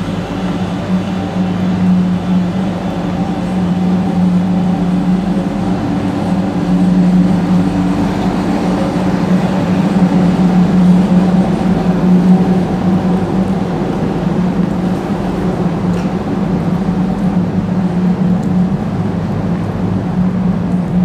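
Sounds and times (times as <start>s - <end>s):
loud mechanical hum: 0.0s - 21.0s.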